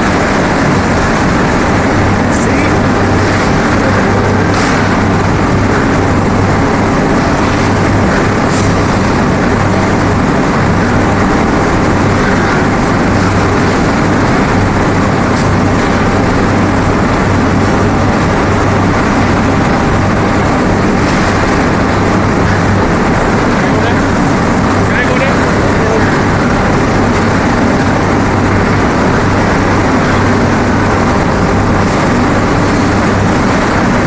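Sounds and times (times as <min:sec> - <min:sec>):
machine mechanical drone: 0:00.0 - 0:34.0.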